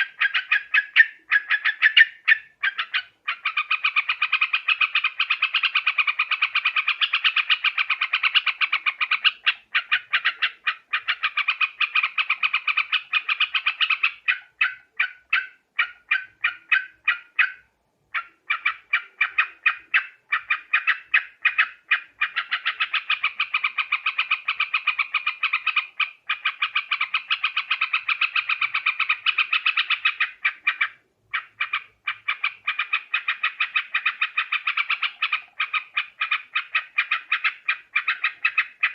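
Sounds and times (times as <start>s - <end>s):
bulbul chattering calls: 0.0s - 38.9s.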